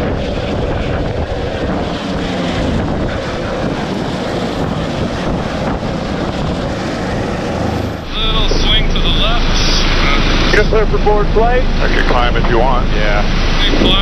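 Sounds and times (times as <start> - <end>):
downwash rushing over microphone: 0.0 - 14.0
helicopter rotor noise: 0.0 - 14.0.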